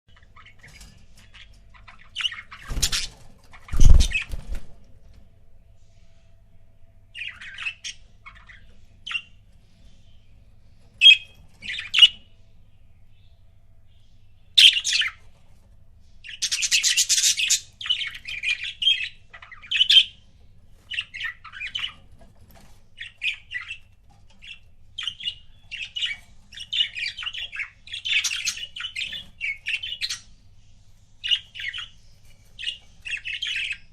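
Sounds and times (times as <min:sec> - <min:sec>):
budgerigars chirping and chattering: 0:00.1 - 0:04.8, 0:07.1 - 0:12.5, 0:14.3 - 0:33.9.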